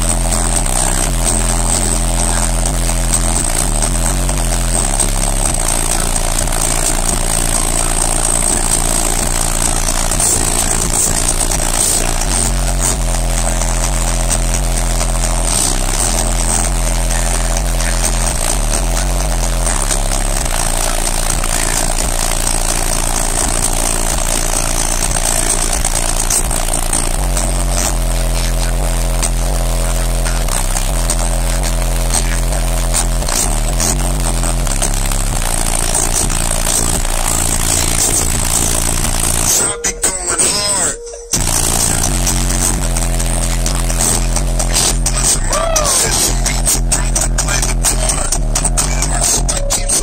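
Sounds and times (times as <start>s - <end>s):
loud bass from subwoofers: 0.0s - 50.0s.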